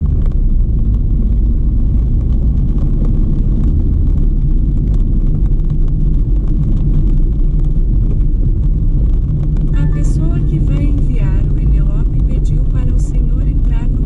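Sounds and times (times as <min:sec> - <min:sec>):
rain drops ticking: 0:00.0 - 0:14.0
steady low rumble: 0:00.0 - 0:14.0.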